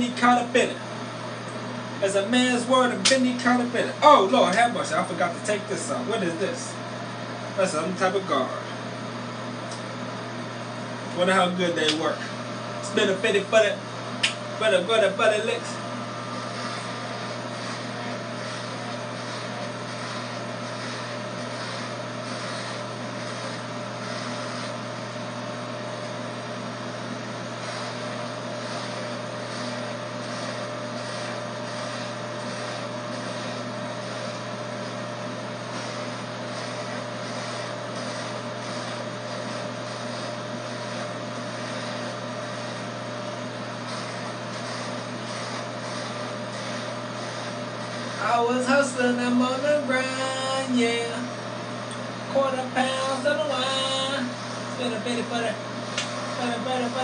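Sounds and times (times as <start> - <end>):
electric hair clippers buzzing: 0.0 - 57.0.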